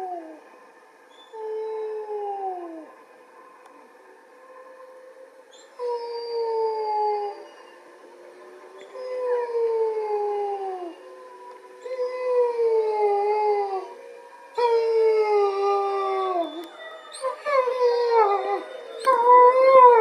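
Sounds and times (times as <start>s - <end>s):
wolf howling: 0.0s - 0.5s, 1.1s - 3.0s, 4.5s - 7.9s, 8.5s - 20.0s
wolves howling faintly: 0.0s - 20.0s.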